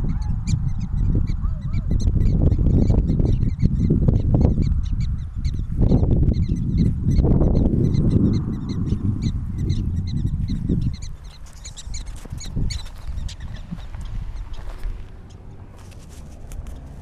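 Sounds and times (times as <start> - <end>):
prairie dogs chirping alarm barks: 0.0 - 15.6.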